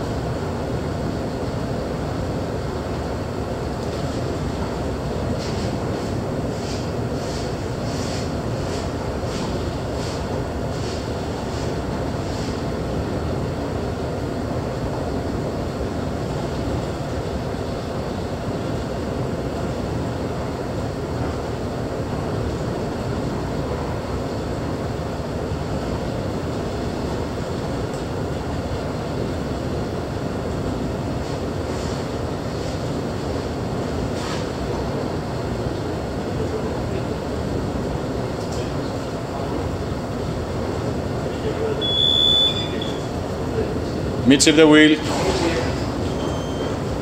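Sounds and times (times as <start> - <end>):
ship rumble and hiss: 0.0 - 47.0.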